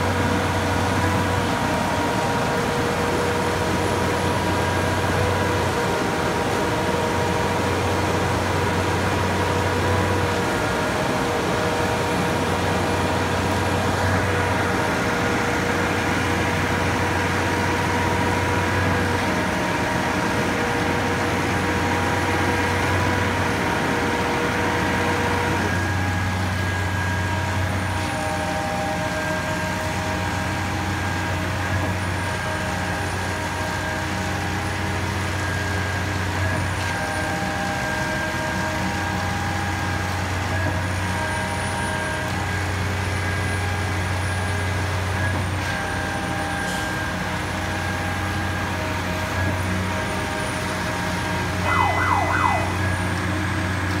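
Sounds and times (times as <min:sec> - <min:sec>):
concrete pump diesel drone: 0:00.0 - 0:54.0.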